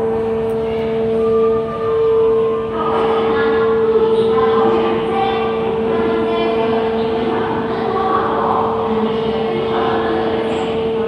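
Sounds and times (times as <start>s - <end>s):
funicular train humming: 0.0s - 11.0s.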